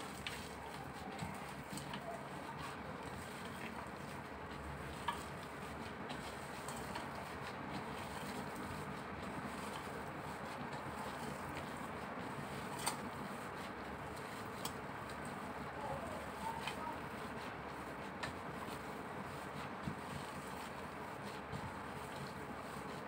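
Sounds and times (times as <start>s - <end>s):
soft squishing of mince: 0.0s - 23.0s.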